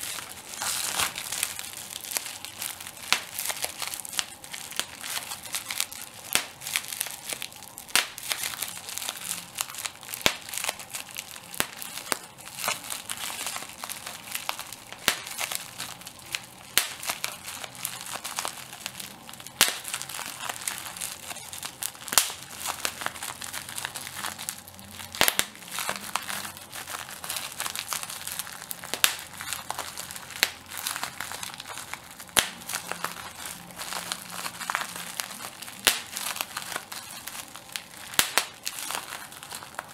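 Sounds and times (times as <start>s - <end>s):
bubble wrap crinkling: 0.0s - 39.9s
bubble wrap popping: 0.0s - 39.9s.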